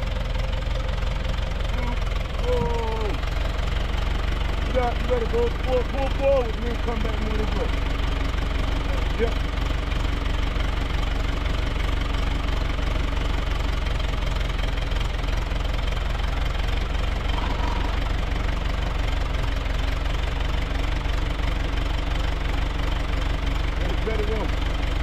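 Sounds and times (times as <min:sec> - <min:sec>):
engine humming steadily: 0:00.0 - 0:25.0.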